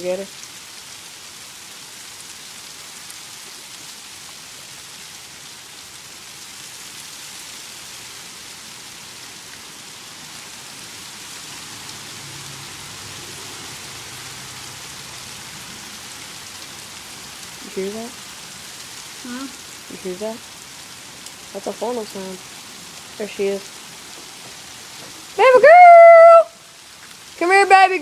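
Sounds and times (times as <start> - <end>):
heavy rain pattering: 0.0 - 28.0.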